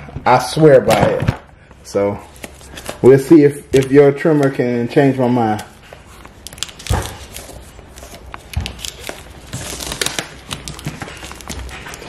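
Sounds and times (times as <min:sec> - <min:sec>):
plastic shrink wrap crinkling: 0:01.8 - 0:12.0.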